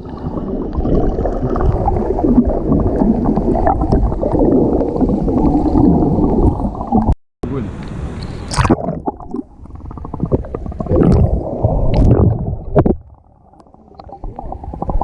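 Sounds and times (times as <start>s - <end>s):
muffled underwater water rush: 0.0s - 15.0s.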